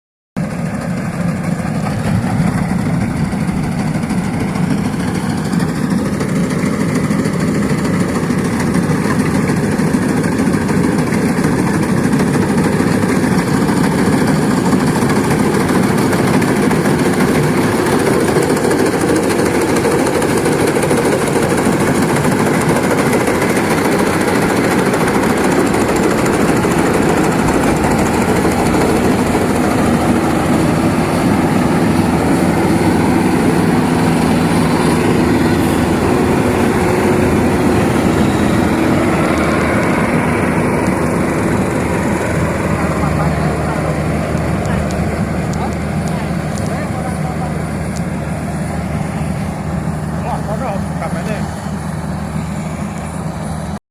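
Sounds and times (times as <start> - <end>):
combine harvester engine drone: 0.4 - 53.8.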